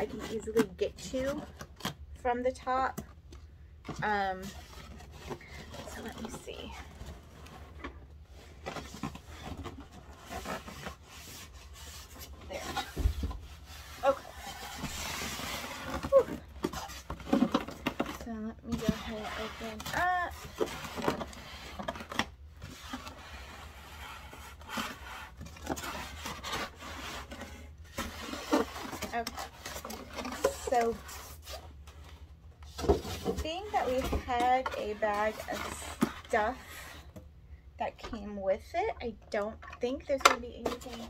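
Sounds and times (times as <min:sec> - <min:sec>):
cardboard and styrofoam scraping: 0:00.0 - 0:03.0, 0:04.0 - 0:37.1, 0:40.1 - 0:41.0.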